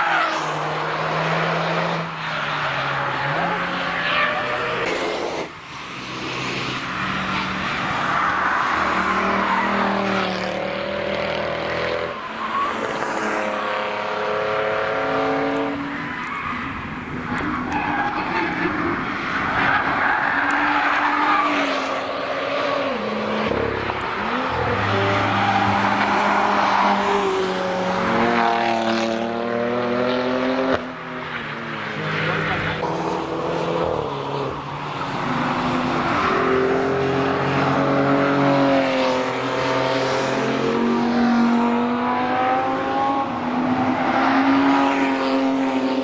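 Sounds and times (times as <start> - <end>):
car engines revving: 0.0 - 46.0
road and exhaust noise: 0.0 - 46.0.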